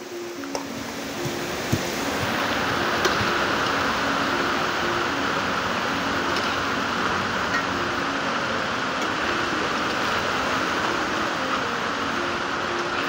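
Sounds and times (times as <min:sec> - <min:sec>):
crab sizzling in hot oil: 0:00.4 - 0:13.0.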